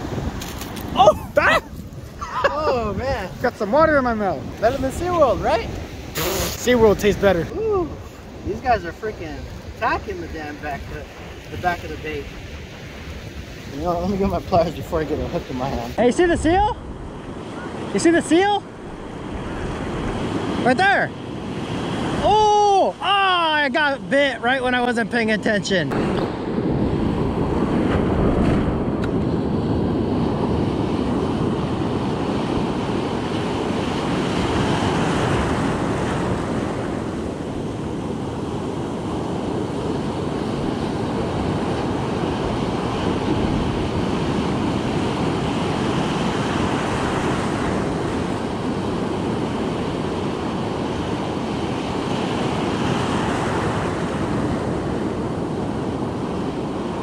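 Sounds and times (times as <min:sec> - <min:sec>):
wind buffeting microphone: 0:00.0 - 0:20.6, 0:25.9 - 0:57.0
ocean surf breaking: 0:00.0 - 0:25.2, 0:25.8 - 0:57.0.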